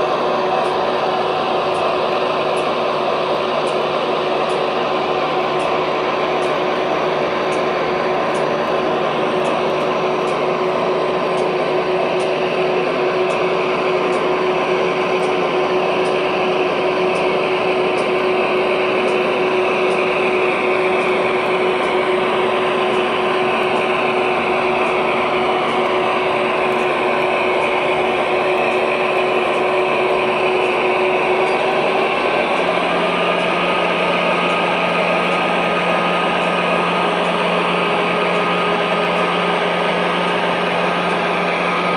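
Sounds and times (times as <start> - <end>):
high-pitched whine: 0.0 - 41.9
model locomotive diesel sound: 0.0 - 41.9
motor hum: 0.0 - 41.9.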